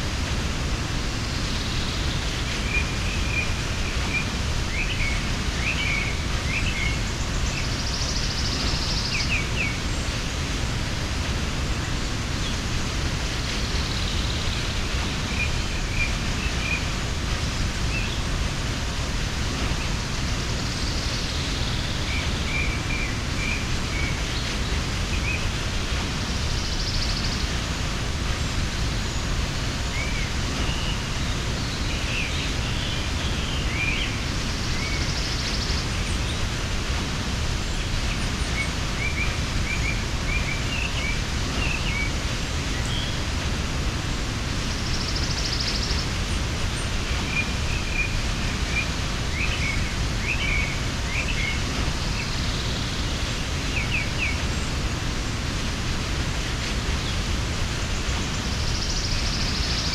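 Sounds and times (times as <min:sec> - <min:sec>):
waterfall rushing: 0:00.0 - 0:59.9
small birds chirping: 0:00.4 - 0:59.9.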